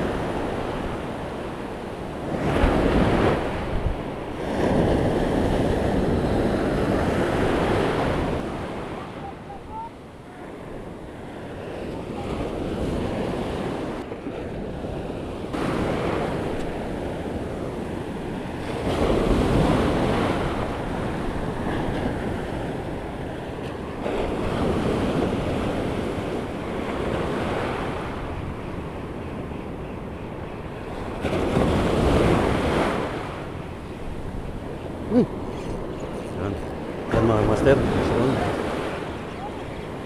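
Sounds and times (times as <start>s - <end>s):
surf breaking and washing: 0.0s - 40.0s.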